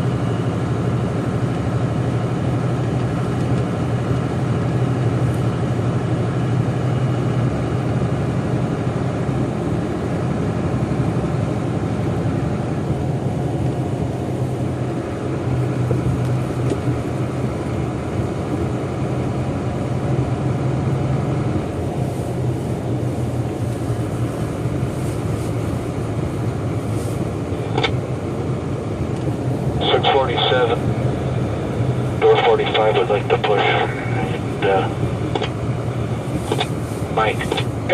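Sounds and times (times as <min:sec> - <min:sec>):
jet engines droning: 0:00.0 - 0:37.9.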